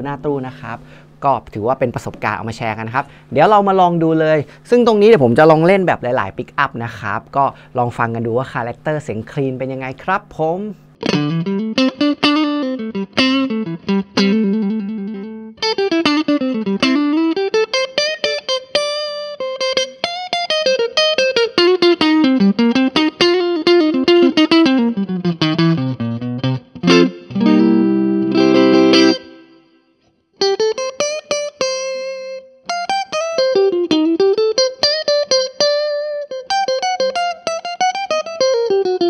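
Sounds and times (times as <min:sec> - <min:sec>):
electric guitar chords: 0:00.0 - 0:01.2, 0:07.2 - 0:39.0
electric guitar single-note runs: 0:04.8 - 0:39.0.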